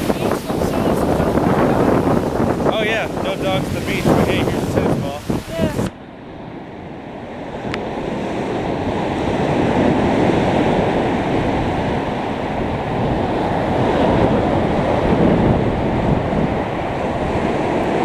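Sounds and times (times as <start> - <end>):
surf: 0.0 - 18.0
wind blowing across microphone: 0.0 - 18.0.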